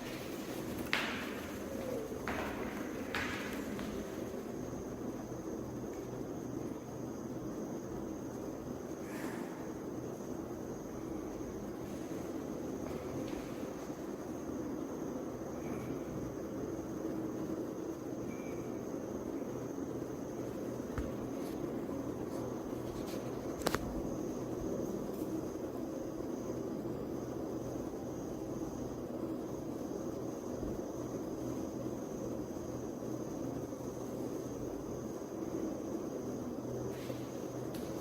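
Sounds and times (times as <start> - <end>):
background hum and hiss: 0.0 - 38.0
faint high whine: 0.0 - 38.0.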